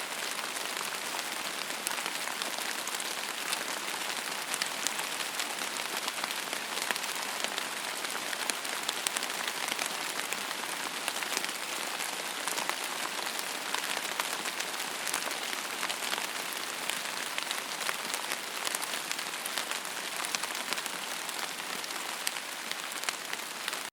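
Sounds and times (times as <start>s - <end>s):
rain pattering in forest: 0.0s - 23.9s.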